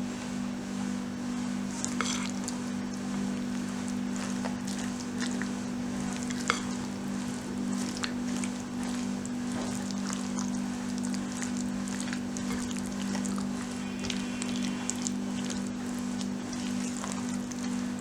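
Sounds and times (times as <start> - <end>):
steady low hum: 0.0 - 18.0
wet stirring in a bowl: 0.2 - 18.0.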